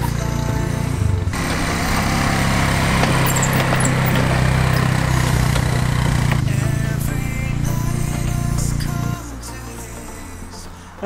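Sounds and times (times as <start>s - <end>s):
quad engine running: 0.0s - 11.0s.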